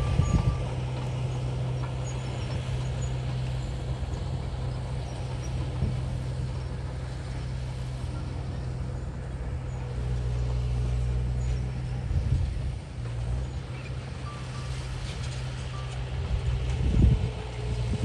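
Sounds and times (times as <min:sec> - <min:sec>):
heavy machinery diesel engine: 0:00.0 - 0:18.0.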